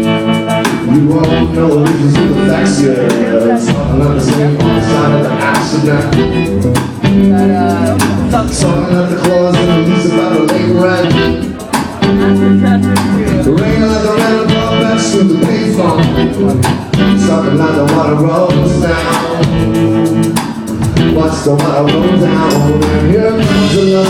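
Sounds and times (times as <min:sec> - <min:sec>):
guitar: 0:00.0 - 0:24.0
live band playing: 0:00.0 - 0:24.0.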